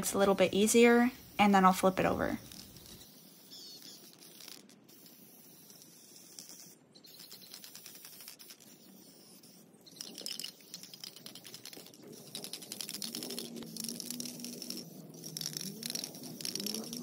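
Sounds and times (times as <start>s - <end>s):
aerosol spray paint hissing: 0.0s - 17.0s.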